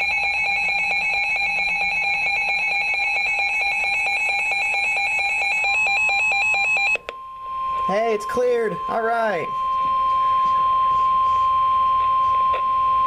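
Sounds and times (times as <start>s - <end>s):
rapidly pulsing electronic alarm tone: 0.0s - 13.0s
steady electronic tone: 0.0s - 13.0s.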